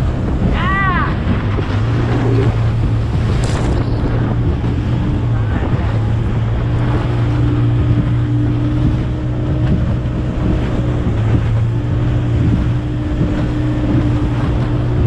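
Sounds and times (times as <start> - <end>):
speedboat engine running: 0.0 - 15.0
water rushing past hull: 0.0 - 15.0
wind buffeting microphone: 0.0 - 15.0.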